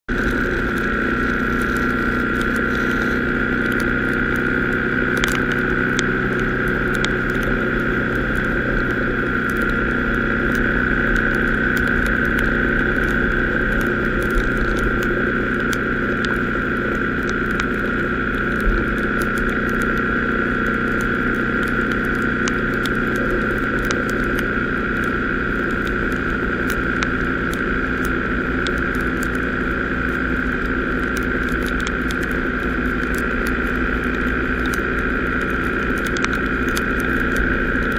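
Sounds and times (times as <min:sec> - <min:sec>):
high whine: 0:00.0 - 0:37.9
motorcycle engine: 0:00.0 - 0:37.9
raindrops ticking on camera: 0:00.1 - 0:37.9.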